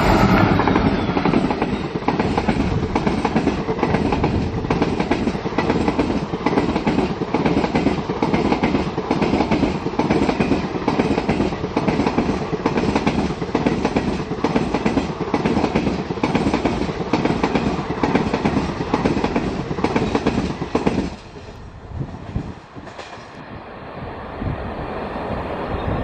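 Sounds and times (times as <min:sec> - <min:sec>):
train wheels clattering: 0:00.0 - 0:21.6
rumble of train moving away: 0:00.0 - 0:26.0.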